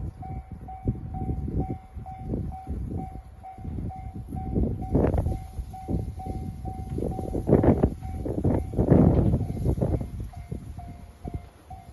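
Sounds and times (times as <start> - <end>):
level crossing warning bell: 0.0 - 11.9
wind gusts on microphone: 0.0 - 11.9.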